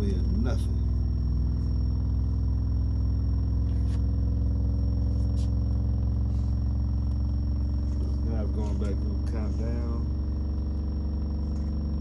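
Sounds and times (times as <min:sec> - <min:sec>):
subwoofer bass test tone: 0:00.0 - 0:12.0.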